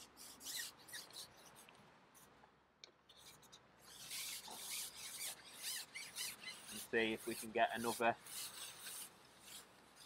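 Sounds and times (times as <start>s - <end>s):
fishing pole scraping: 0.0s - 1.7s, 3.1s - 10.0s.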